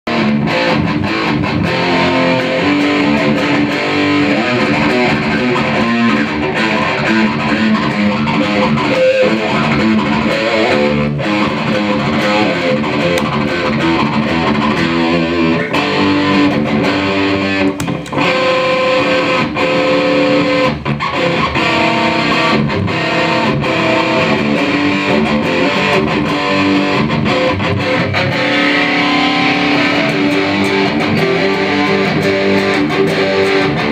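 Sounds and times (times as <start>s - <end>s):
distorted electric guitar: 0.0s - 33.9s.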